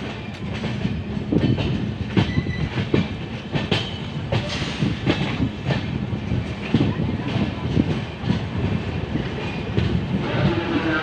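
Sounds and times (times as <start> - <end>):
train wheels rumbling: 0.0 - 11.0
wheels clacking over rail joints: 0.0 - 11.0.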